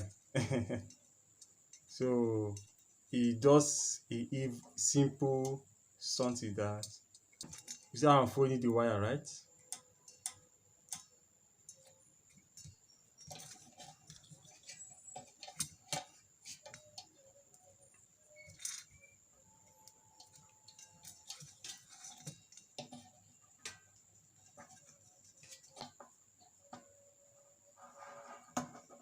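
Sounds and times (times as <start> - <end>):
small clicks and ticks: 0.0 - 3.1, 3.8 - 27.5.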